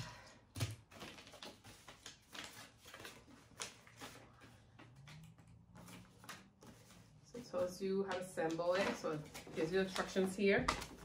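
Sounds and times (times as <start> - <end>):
paper booklet pages turning: 0.8 - 11.0.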